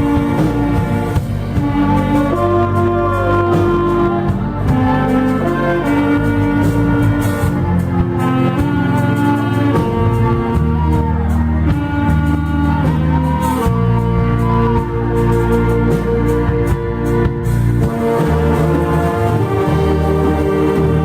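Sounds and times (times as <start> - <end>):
orchestra playing slow hymn: 0.0 - 21.0.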